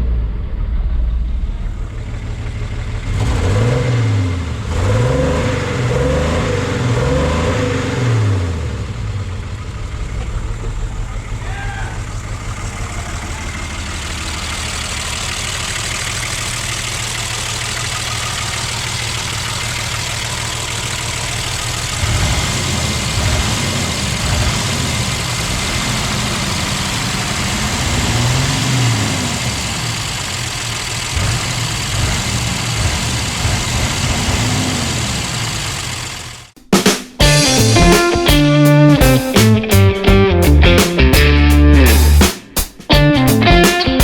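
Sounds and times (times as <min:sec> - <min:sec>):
diesel engine revving: 0:00.0 - 0:36.6, 0:37.3 - 0:42.4.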